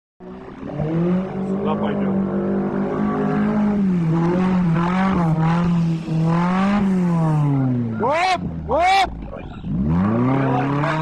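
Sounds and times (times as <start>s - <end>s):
off-road vehicle engine revving: 0.2s - 11.0s.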